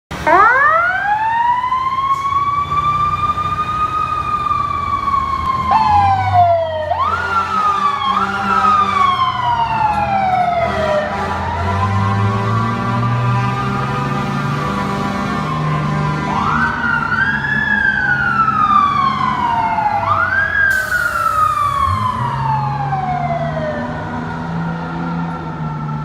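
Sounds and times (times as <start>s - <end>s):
fire truck siren wailing: 0.1s - 26.0s
truck engine rumble: 0.1s - 26.0s.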